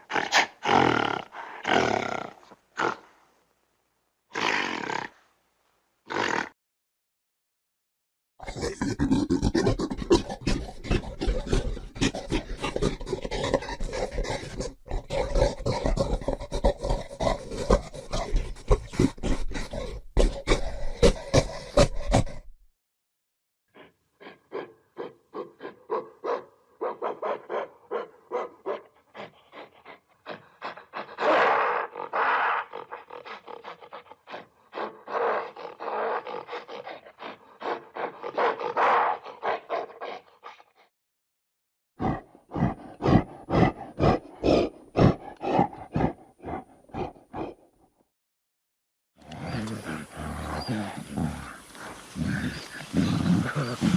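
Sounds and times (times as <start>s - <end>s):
gorilla grunting and panting: 0.0s - 3.1s, 8.4s - 22.5s, 23.7s - 40.9s, 42.0s - 47.8s, 49.2s - 53.9s.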